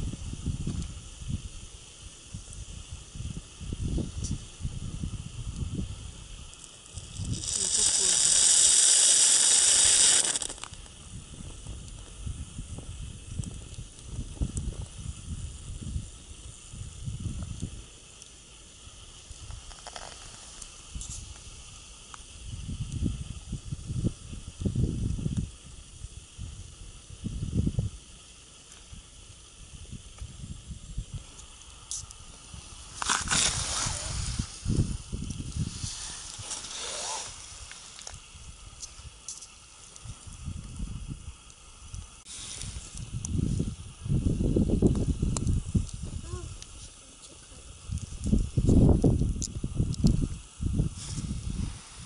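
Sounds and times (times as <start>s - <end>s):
boiler venting steam hiss: 0.0s - 52.0s.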